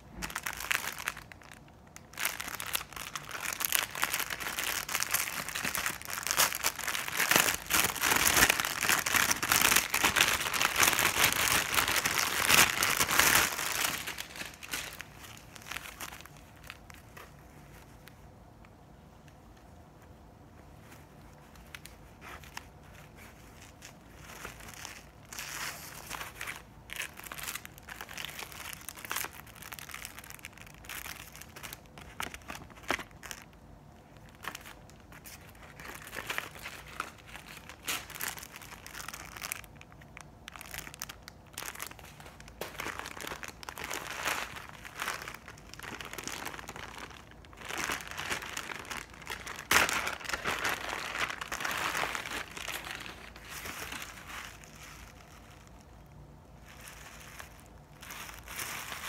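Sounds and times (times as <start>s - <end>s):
plastic packaging crinkling: 0.0s - 59.0s.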